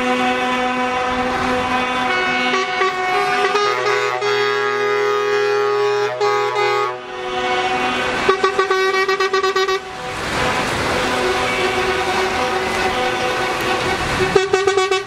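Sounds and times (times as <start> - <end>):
truck air horn chord: 0.0 - 15.0
short air horn toots: 0.1 - 15.0.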